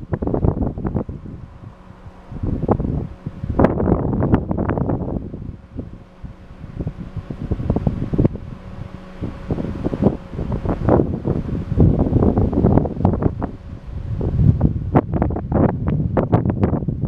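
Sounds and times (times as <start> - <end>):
faint hum: 0.0 - 17.0
wind buffeting microphone: 0.0 - 17.0.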